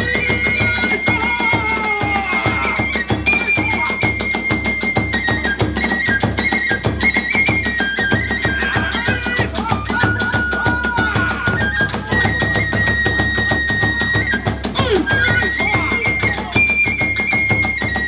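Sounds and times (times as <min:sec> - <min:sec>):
bamboo flute melody: 0:00.0 - 0:18.0.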